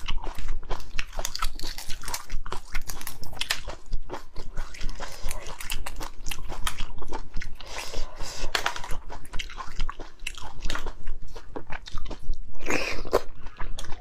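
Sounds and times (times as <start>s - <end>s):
wet chewing and mouth clicks: 0.0s - 14.0s.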